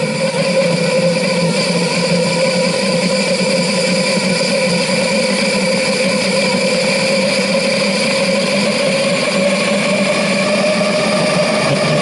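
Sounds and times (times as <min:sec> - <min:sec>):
pulsejet engine droning: 0:00.0 - 0:12.0.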